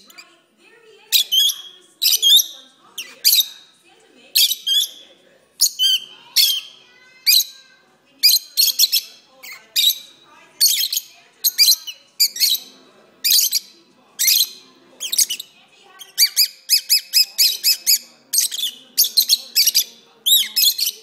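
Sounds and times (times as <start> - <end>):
lovebirds chirping and twittering: 0.0 - 21.0.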